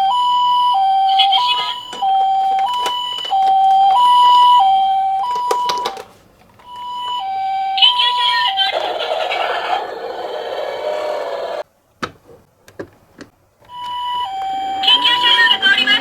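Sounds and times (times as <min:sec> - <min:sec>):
toy ambulance two-tone siren: 0:00.0 - 0:11.6, 0:13.7 - 0:16.0.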